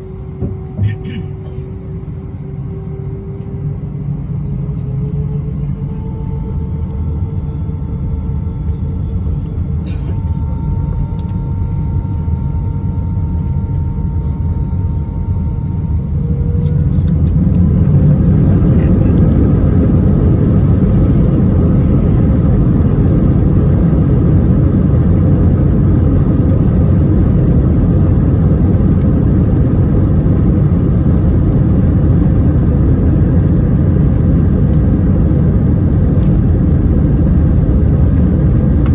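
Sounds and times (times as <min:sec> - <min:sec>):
jet engines whining and rumbling: 0:00.0 - 0:38.9.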